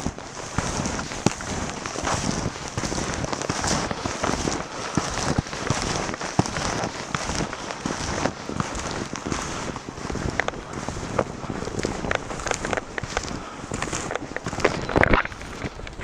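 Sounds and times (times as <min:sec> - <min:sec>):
packed snow crackling and squeaking: 0:00.0 - 0:16.0
snowshoes crunching through snow: 0:00.0 - 0:16.0.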